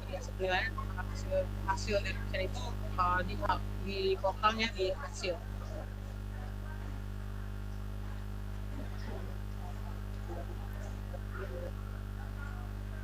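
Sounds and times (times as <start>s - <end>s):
faint scattered sounds: 0.0s - 13.0s
low electrical mains hum: 0.0s - 13.0s.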